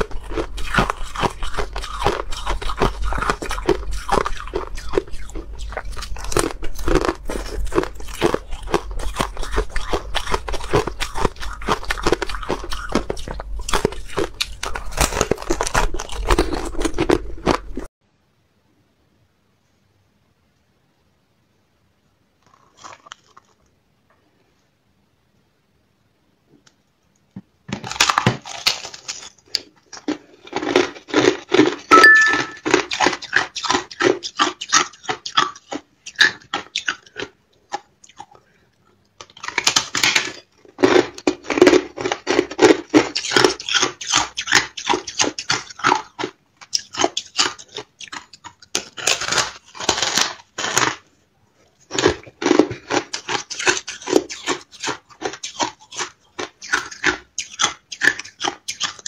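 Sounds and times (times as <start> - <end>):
ice being chewed: 0.0 - 17.9, 22.4 - 23.8, 27.9 - 59.0.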